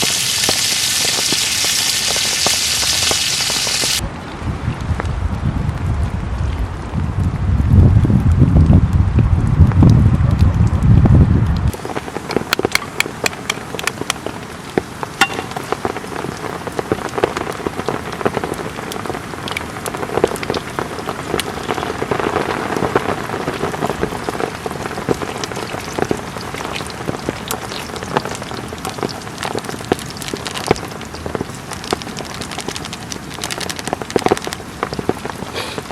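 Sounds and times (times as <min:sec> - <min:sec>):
heavy rain on a tent: 0:00.0 - 0:35.9.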